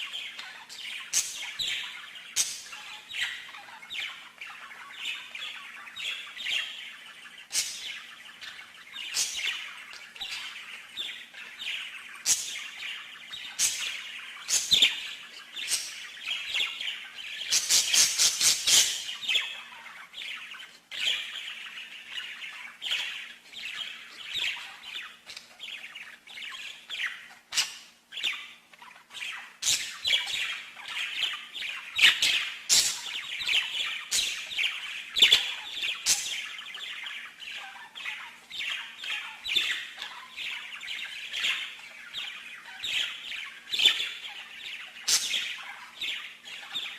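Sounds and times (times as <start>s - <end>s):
faint steady hum: 0.0s - 46.9s
songbird singing: 0.0s - 46.9s.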